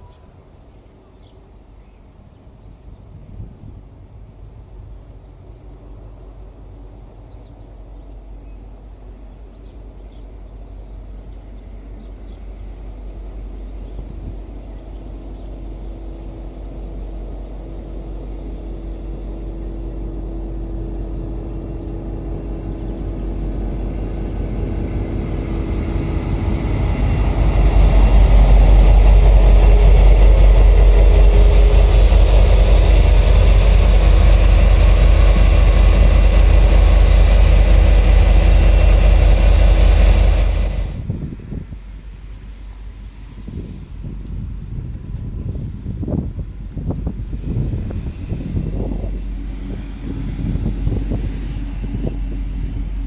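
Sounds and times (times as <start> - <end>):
diesel train engine: 4.6 - 53.0.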